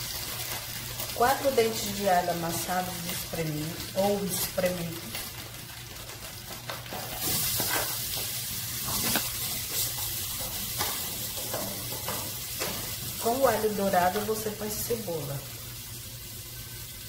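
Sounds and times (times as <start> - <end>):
garlic sizzling in hot oil: 0.0 - 17.0.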